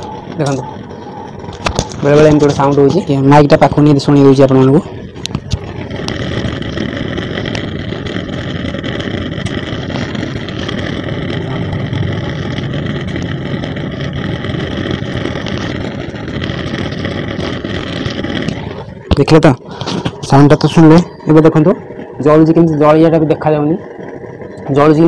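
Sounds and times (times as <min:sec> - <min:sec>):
burner crackling pops: 0:00.0 - 0:25.0
gas burner rumbling hiss: 0:00.0 - 0:25.0.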